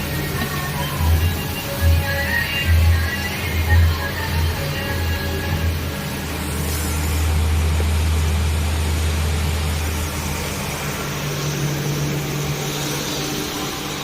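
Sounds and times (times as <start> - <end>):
burner blower hum and rushing: 0.0 - 14.0.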